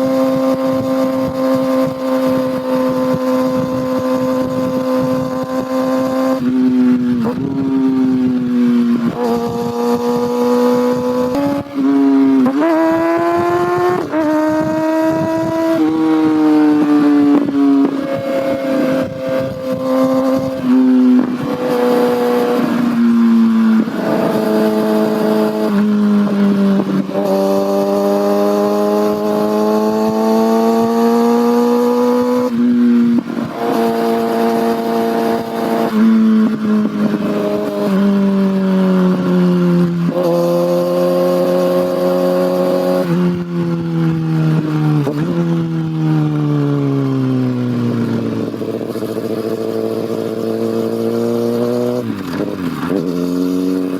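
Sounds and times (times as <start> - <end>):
motorcycle engine shifting gears: 0.0 - 53.9.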